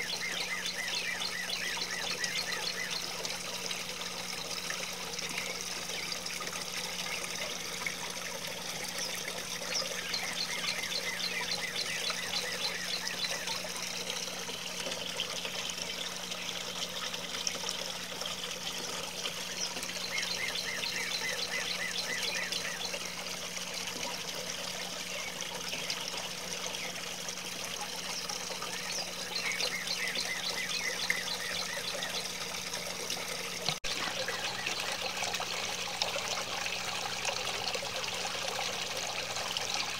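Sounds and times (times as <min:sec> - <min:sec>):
water trickling down fountain: 0:00.0 - 0:39.9.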